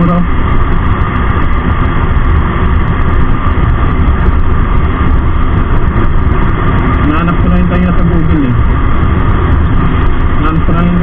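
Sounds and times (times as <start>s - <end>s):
road noise: 0.0s - 11.0s
wind rushing: 0.0s - 11.0s.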